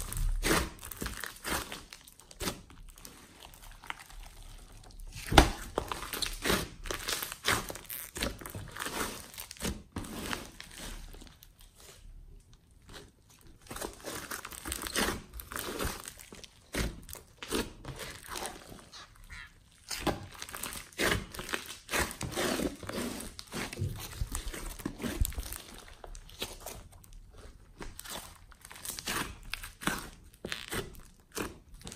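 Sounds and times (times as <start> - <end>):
slime crackling and squelching: 0.0 - 31.9.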